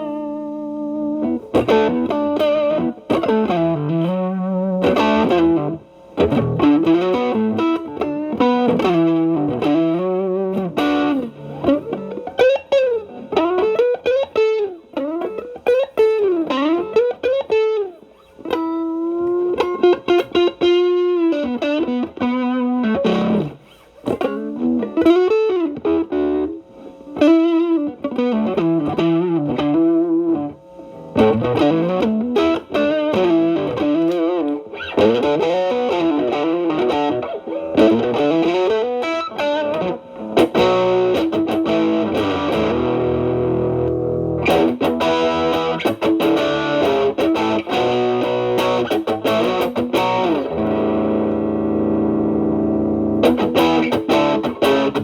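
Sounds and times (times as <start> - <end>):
electric guitar blues lines: 0.0 - 55.0.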